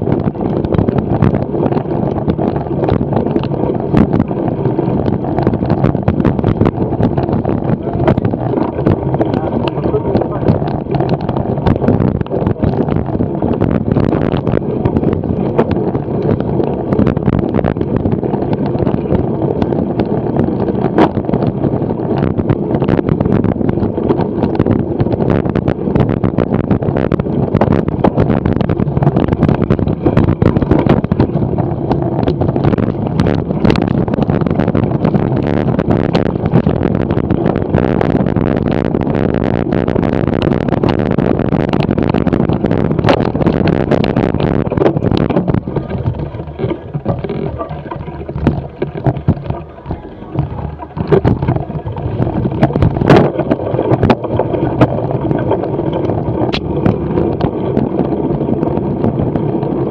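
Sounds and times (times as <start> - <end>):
bike rumbling over dirt: 0.0 - 59.9
wind on microphone: 0.0 - 59.9.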